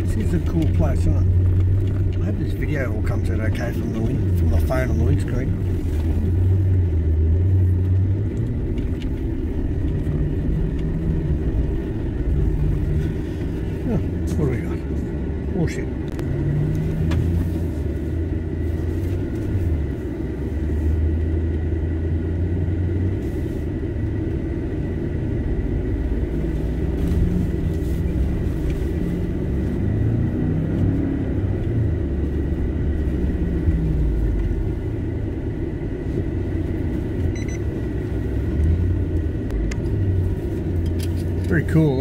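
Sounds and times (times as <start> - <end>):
car engine running from inside: 0.0 - 42.0.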